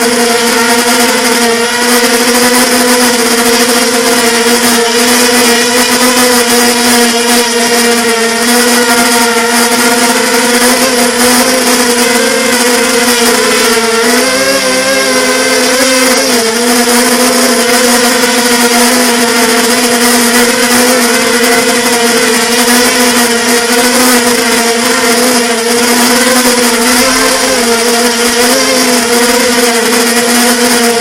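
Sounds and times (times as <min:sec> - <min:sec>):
quadcopter propellers buzzing: 0:00.0 - 0:31.0.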